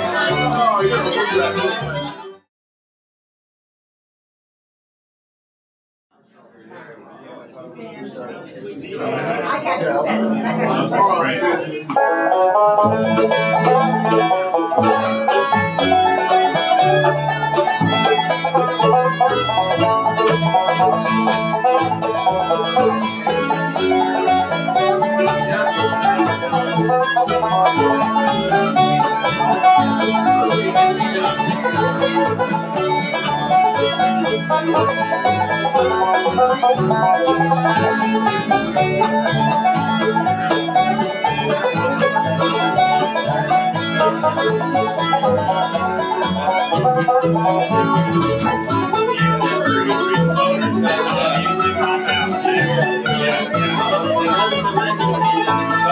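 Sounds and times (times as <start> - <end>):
bowed fiddle: 0.0 - 2.4, 9.5 - 55.9
plucked upright bass: 0.0 - 2.4, 9.7 - 55.9
strummed acoustic guitar: 0.0 - 2.4, 9.9 - 55.9.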